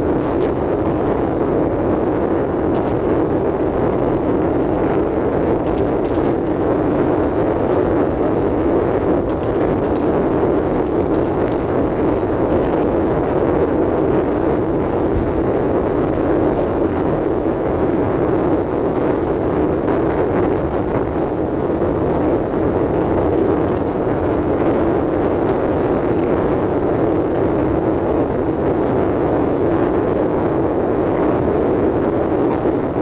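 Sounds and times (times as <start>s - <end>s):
road and wind noise inside car: 0.0s - 33.0s.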